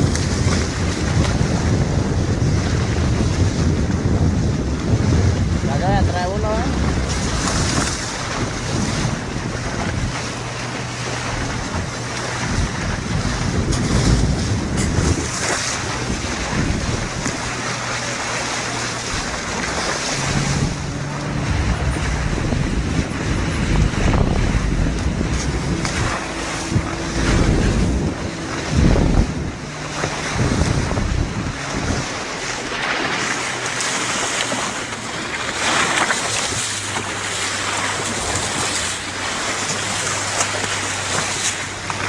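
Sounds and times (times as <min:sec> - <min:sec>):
boat engine hum: 0:00.0 - 0:42.0
water rushing along hull: 0:00.0 - 0:42.0
wind buffeting microphone: 0:00.0 - 0:42.0.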